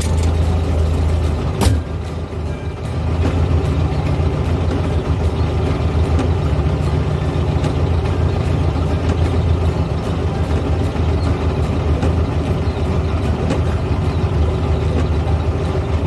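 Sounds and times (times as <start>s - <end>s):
car engine idling low rumble: 0.0s - 16.0s.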